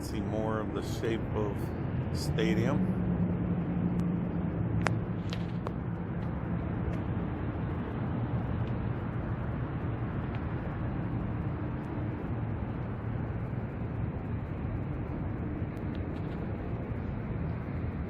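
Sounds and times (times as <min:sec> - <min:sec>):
distant road traffic rumble: 0:00.0 - 0:18.0
faint steady hum: 0:00.0 - 0:18.0.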